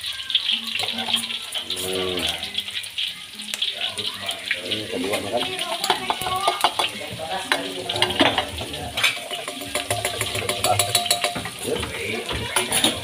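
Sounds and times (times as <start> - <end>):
spices frying in hot oil: 0.0 - 13.0.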